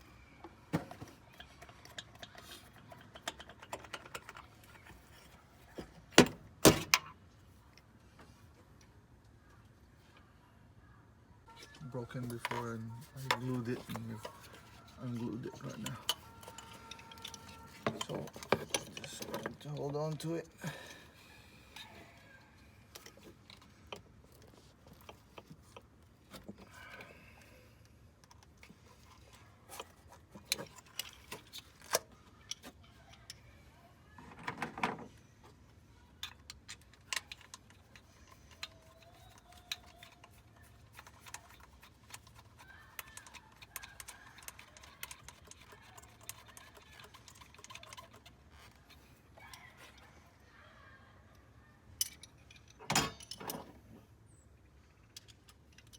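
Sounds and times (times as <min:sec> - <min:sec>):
tools and engine parts clinking: 0:00.4 - 0:07.9, 0:11.8 - 0:22.0, 0:22.8 - 0:27.4, 0:28.2 - 0:33.4, 0:34.2 - 0:50.1, 0:51.9 - 0:54.0, 0:55.0 - 0:55.9.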